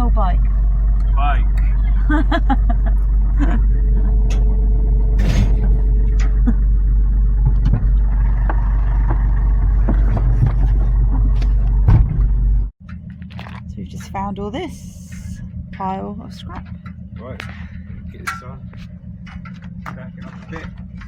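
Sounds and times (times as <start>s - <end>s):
truck engine droning: 0.0s - 21.0s
knocks and rattles: 0.7s - 21.0s.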